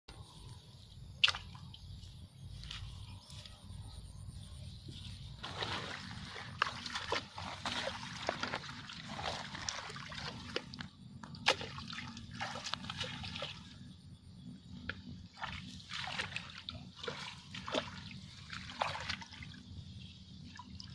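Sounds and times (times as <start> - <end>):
water splashing and sloshing: 0.1 - 3.4, 4.3 - 20.9.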